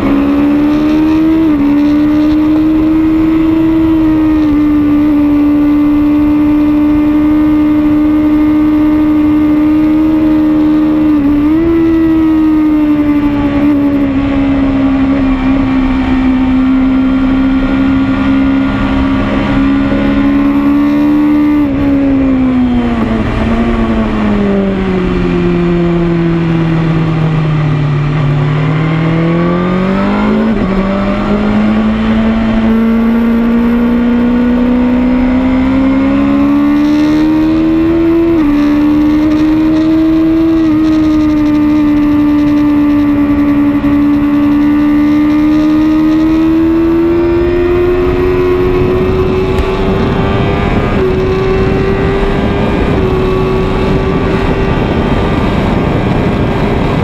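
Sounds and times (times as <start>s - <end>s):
motorcycle engine at speed: 0.0s - 57.0s
wind rush: 9.0s - 57.0s.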